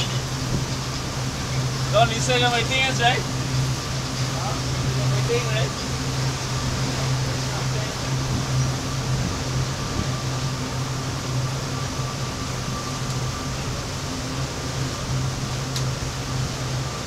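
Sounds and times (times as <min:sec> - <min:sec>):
motorboat engine droning: 0:00.0 - 0:17.0
wind and water rushing: 0:00.0 - 0:17.0.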